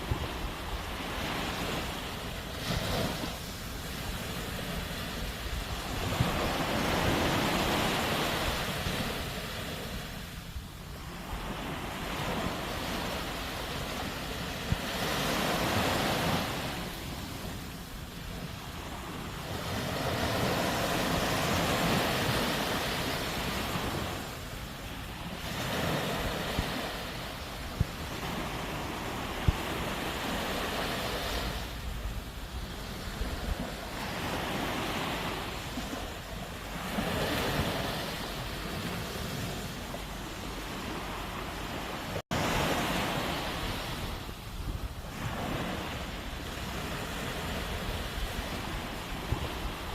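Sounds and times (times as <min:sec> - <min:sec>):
sea waves breaking on shore: 0:00.0 - 0:49.9
wind on microphone: 0:00.0 - 0:49.9.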